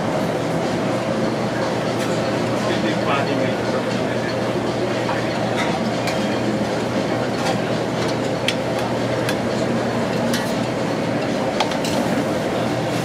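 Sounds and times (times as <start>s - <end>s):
restaurant background roar: 0.0s - 13.0s.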